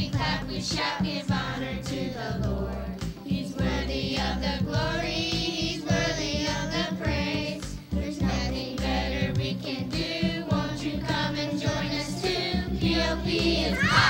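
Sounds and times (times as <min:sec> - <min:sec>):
steady drum beat: 0:00.0 - 0:14.0
voices singing together: 0:00.0 - 0:14.0.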